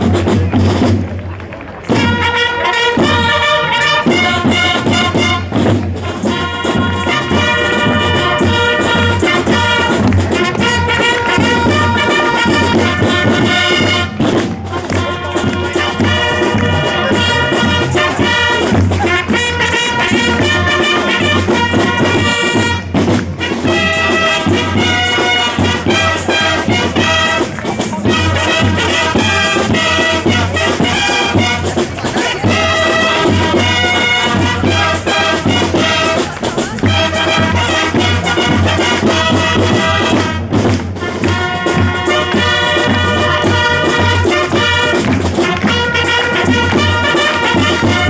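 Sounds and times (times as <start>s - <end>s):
steady drum beat: 0.0s - 1.1s, 1.9s - 48.0s
brass fanfares: 1.6s - 48.0s.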